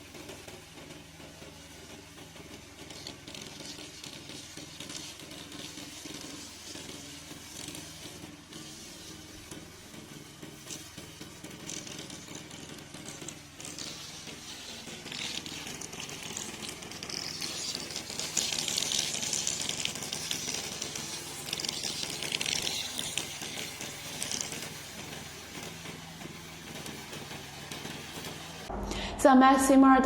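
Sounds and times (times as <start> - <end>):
bursts of hiss: 0.0 - 28.7
petrol mower engine running: 0.0 - 28.7.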